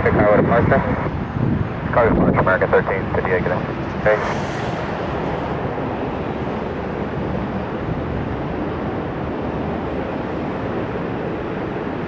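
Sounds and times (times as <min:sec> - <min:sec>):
jet engine rumble: 0:00.0 - 0:12.0
wind: 0:00.0 - 0:12.0.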